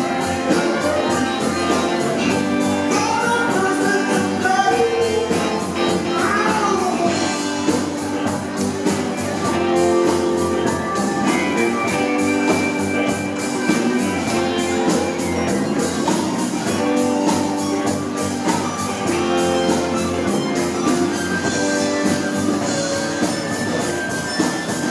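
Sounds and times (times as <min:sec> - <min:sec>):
live rock band playing: 0:00.0 - 0:24.9.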